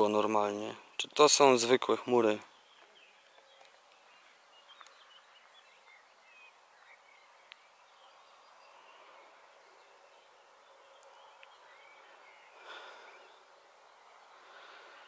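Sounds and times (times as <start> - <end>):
distant bird chirps: 0.0 - 15.0.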